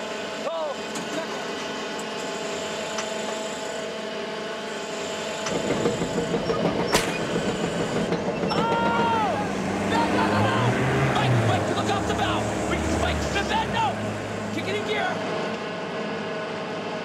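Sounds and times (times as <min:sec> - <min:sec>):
boat engine and deck machinery: 0:00.0 - 0:17.0.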